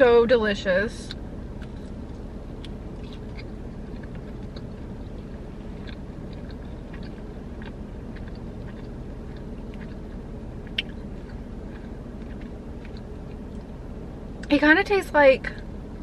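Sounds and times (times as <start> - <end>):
low hum: 0.0 - 16.0
crunchy chewing: 1.0 - 14.5.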